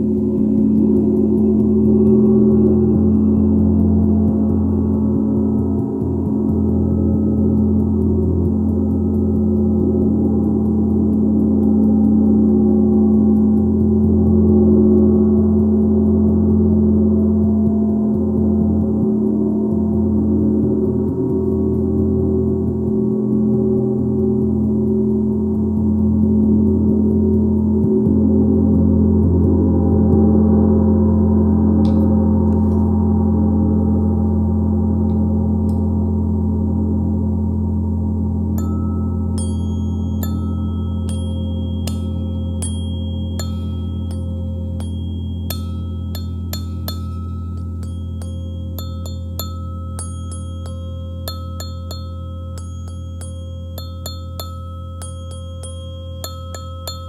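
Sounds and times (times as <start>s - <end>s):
gong drone: 0.0s - 57.0s.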